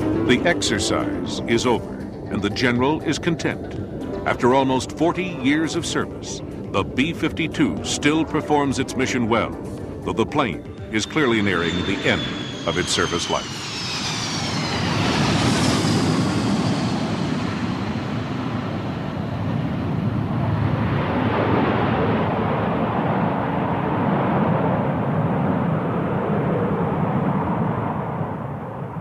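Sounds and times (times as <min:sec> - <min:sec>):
jet plane passing: 0:00.0 - 0:29.0.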